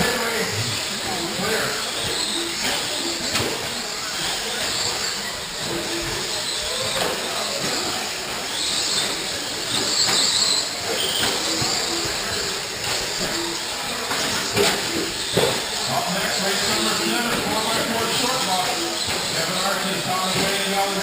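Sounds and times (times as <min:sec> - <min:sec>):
rc truck motor whine: 0:00.0 - 0:21.0.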